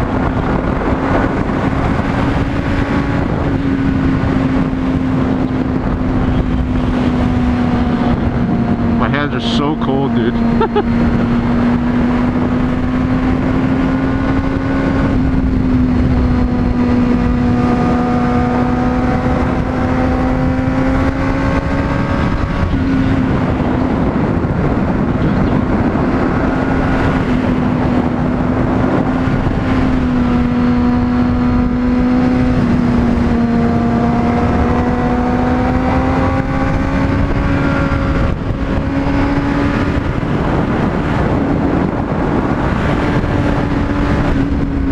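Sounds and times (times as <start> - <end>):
motorcycle engine cruising: 0.0 - 44.9
wind and road noise: 0.0 - 44.9.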